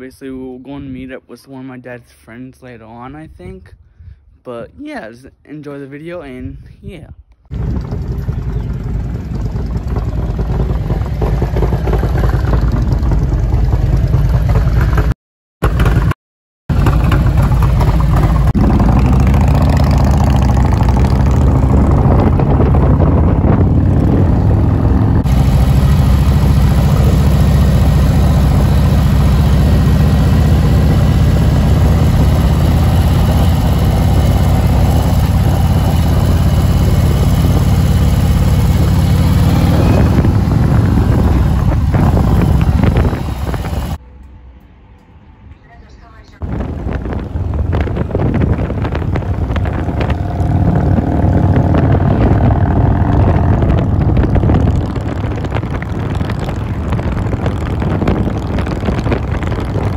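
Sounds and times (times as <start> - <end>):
motorcycle engine running: 7.5 - 44.0, 46.4 - 59.9.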